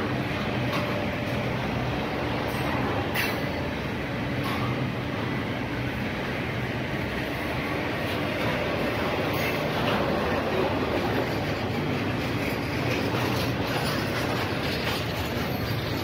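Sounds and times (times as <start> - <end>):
steel wheels rumbling on rails: 0.0 - 16.0.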